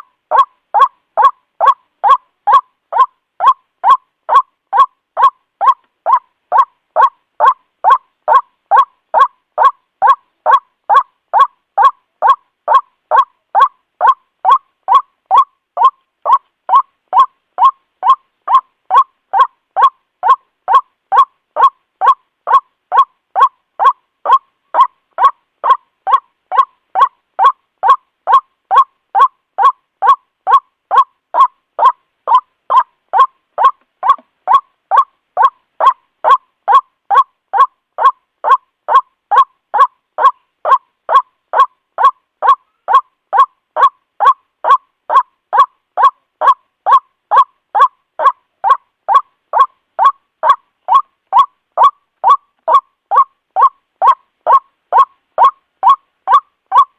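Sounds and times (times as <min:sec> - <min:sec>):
waterhen calling: 0:00.0 - 0:56.9.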